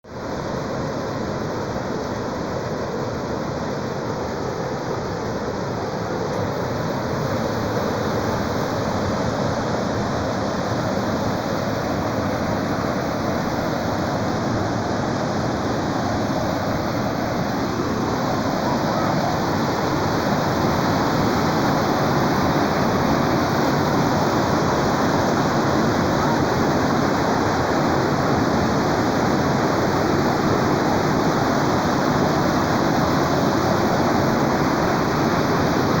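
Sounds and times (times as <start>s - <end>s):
creek water rushing: 0.1s - 36.0s.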